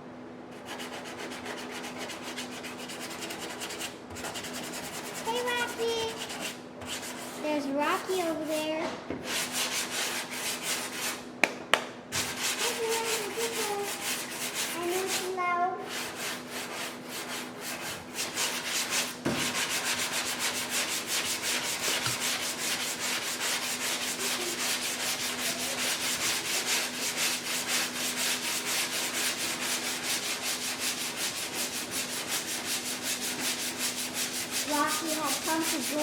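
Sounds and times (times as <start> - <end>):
sandpaper rasping: 0.6 - 7.4, 9.2 - 11.2, 12.2 - 36.0.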